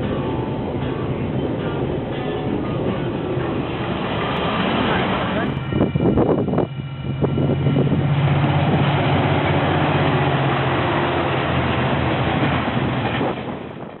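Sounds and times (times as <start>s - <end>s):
locomotive engines running: 0.0s - 14.0s
train rolling noise: 0.0s - 14.0s.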